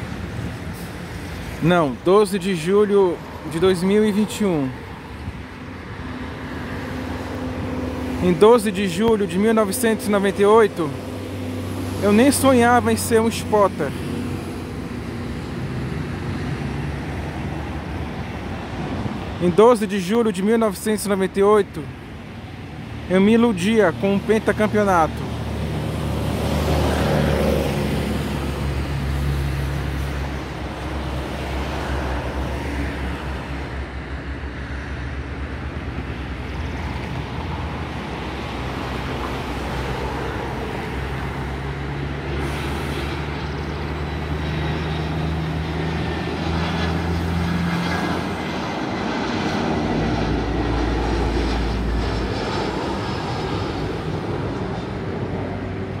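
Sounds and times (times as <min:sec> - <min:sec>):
jet airliner rumble and whine: 0:00.0 - 0:56.0
road traffic noise: 0:00.0 - 0:56.0.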